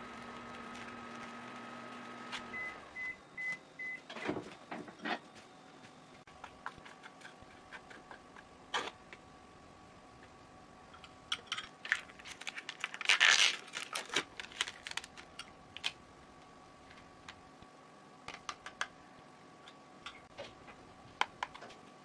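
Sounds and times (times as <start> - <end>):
microwave oven humming: 0.0 - 6.8, 7.8 - 13.0, 13.8 - 22.0.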